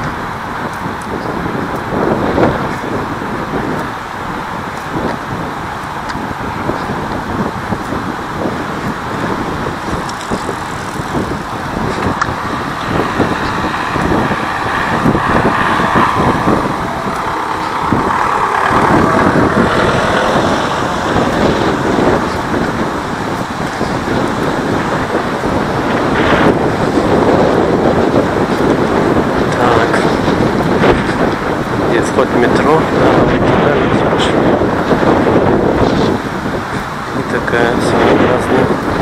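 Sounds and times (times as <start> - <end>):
road traffic rushing past: 0.0 - 39.0.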